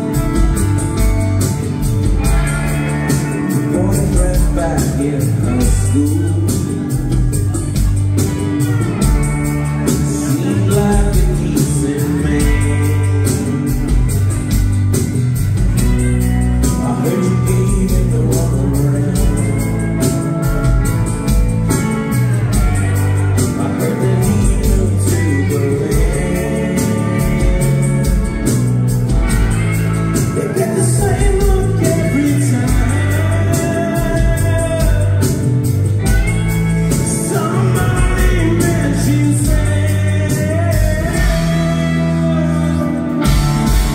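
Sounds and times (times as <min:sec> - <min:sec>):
rock band playing live: 0:00.0 - 0:43.9
person singing: 0:02.2 - 0:14.3, 0:16.6 - 0:21.0, 0:22.0 - 0:28.6, 0:30.1 - 0:43.9.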